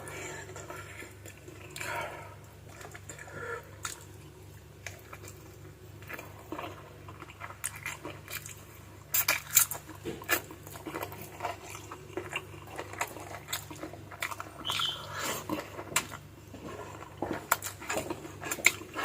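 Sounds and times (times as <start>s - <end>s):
chewing and biting: 2.6s - 19.0s.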